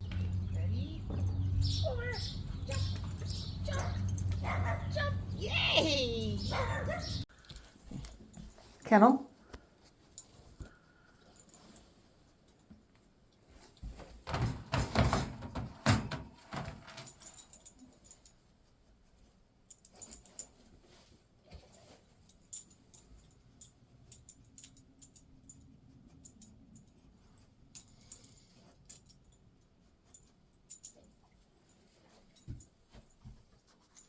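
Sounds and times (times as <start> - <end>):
metallic jingling and clattering: 0.2 - 9.1, 13.5 - 18.5, 19.7 - 34.0.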